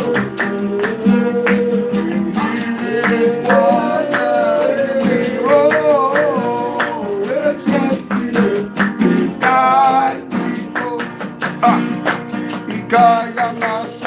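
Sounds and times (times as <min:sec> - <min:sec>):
man singing: 0:00.0 - 0:14.0
strummed acoustic guitar: 0:00.0 - 0:14.0.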